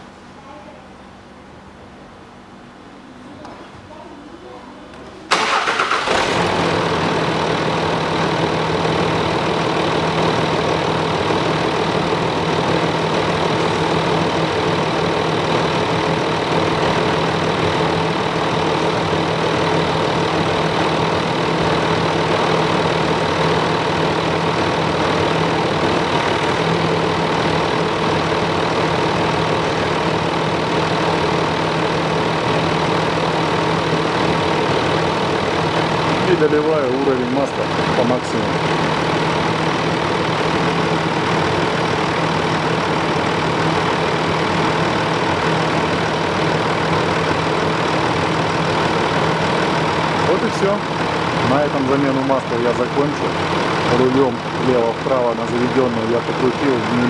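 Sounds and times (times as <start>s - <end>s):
diesel engine idling: 5.3s - 57.0s.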